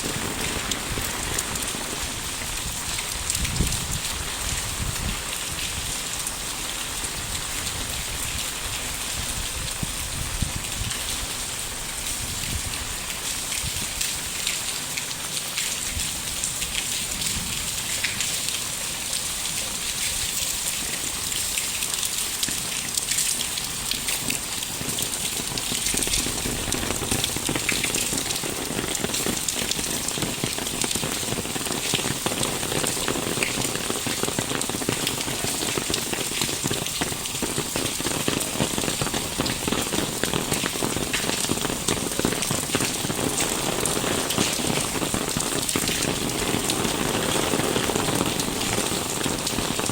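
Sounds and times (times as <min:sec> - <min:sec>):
rain falling on street and roofs: 0:00.0 - 0:49.9.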